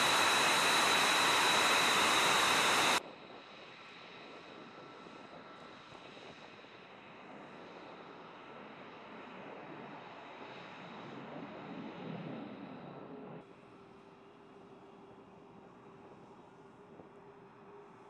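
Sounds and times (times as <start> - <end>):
jet engine whine: 0.0 - 18.0.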